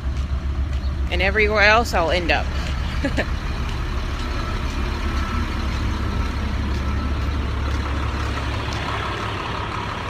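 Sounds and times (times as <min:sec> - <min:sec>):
large vehicle engine rumble: 0:00.0 - 0:10.0.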